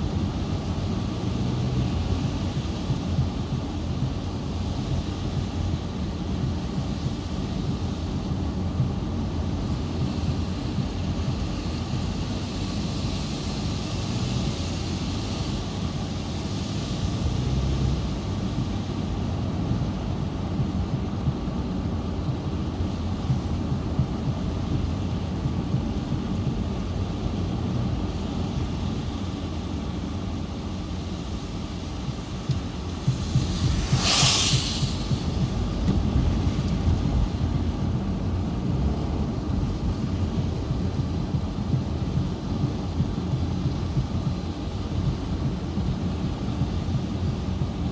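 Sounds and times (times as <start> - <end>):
storm wind on microphone: 0.0 - 47.9.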